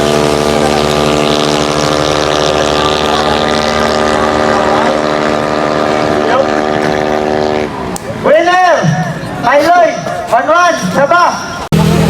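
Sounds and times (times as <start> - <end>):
scooter engines revving: 0.0 - 12.0.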